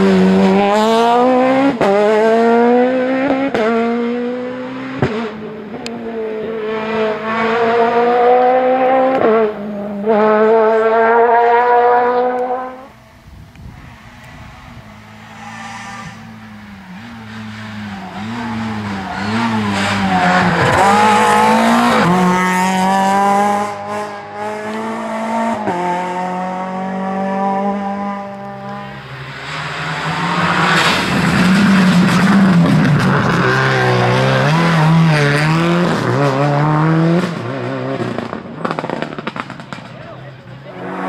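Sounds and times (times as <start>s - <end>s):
car accelerating through upshifts: 0.0s - 39.9s, 40.6s - 41.0s
rally car engines revving: 0.0s - 41.0s.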